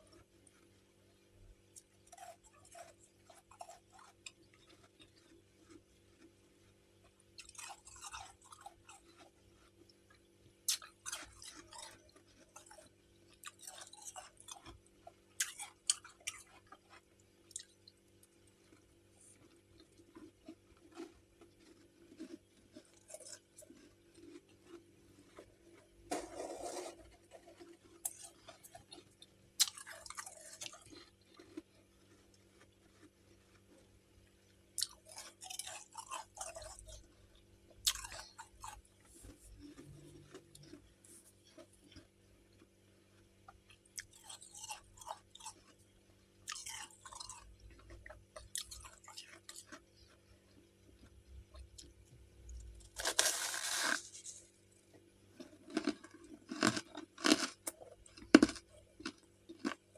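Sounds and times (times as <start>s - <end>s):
faint steady hum: 0.0s - 59.9s
frost being chewed crunching: 0.0s - 59.9s.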